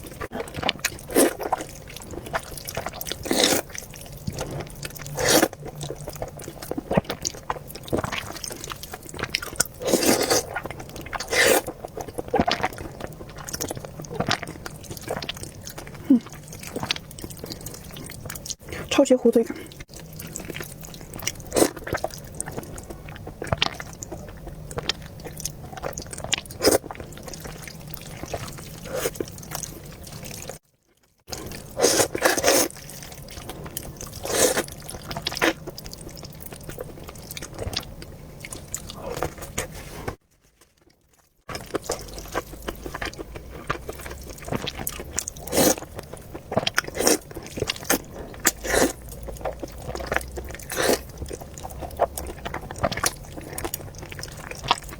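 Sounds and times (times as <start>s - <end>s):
chewing and biting mouth sounds: 0.0s - 18.9s, 19.5s - 30.6s, 31.3s - 54.9s.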